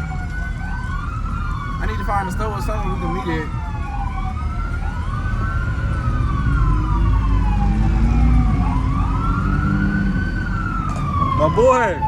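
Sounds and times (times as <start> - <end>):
car engines rumbling: 0.0 - 12.0
police sirens wailing: 0.0 - 12.0.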